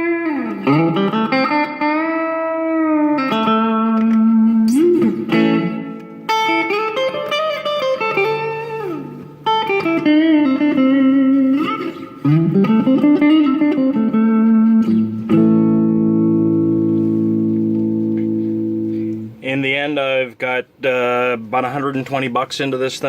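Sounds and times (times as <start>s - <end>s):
electric guitar notes with bends: 0.0s - 19.4s.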